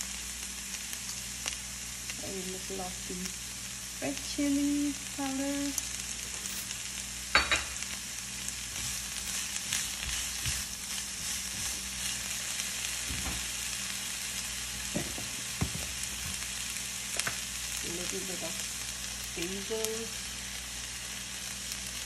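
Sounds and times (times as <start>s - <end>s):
vegetables sizzling in a skillet: 0.0s - 22.0s.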